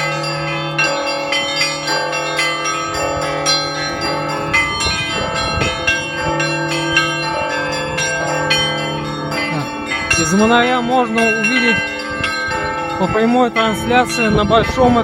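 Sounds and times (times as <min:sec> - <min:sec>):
deep large bells ringing: 0:00.0 - 0:15.0
small bells struck quickly: 0:00.0 - 0:15.0.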